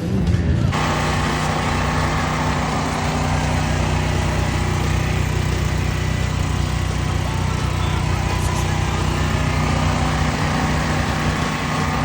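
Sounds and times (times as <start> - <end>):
dirt bike engine idling: 0.7 - 12.0.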